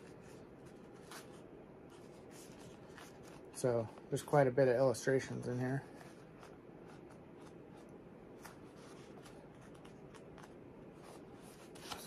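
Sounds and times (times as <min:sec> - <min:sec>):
book pages rustling: 0:00.0 - 0:12.0.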